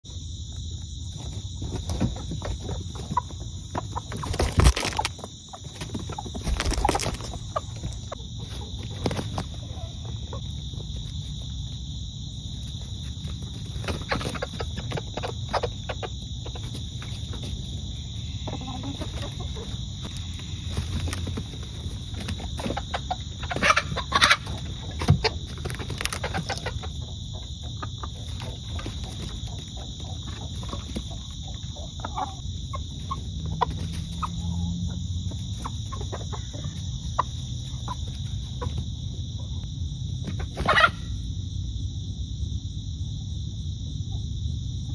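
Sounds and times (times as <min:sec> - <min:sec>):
insects droning: 0:00.0 - 0:44.9
chickens clucking and squawking: 0:00.6 - 0:44.9.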